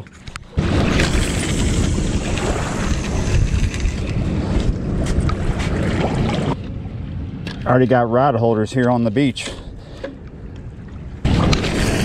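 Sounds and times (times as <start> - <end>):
wind buffeting microphone: 0.4 - 12.0.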